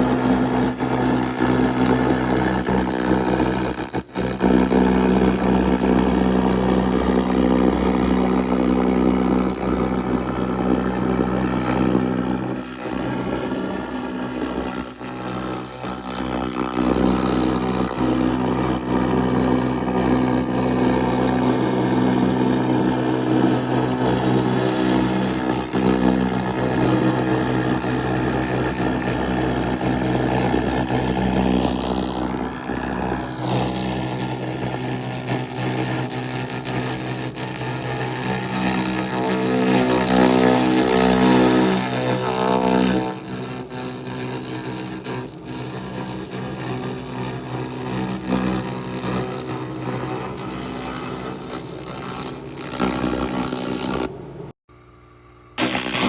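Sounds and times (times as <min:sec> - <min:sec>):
laser rust remover humming: 0:00.0 - 0:54.5, 0:55.4 - 0:56.0.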